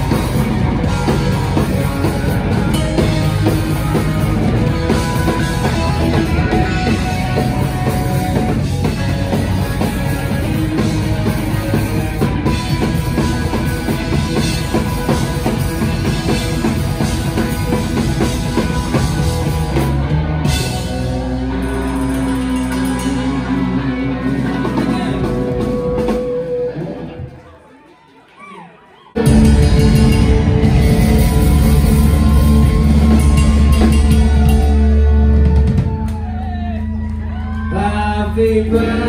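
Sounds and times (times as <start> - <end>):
live rock band playing: 0.0 - 27.4, 29.2 - 39.0.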